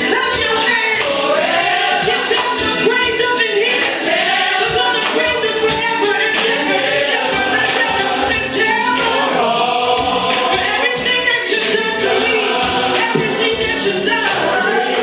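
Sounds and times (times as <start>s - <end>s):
group singing gospel song: 0.0s - 15.0s
percussive beats: 0.0s - 15.0s.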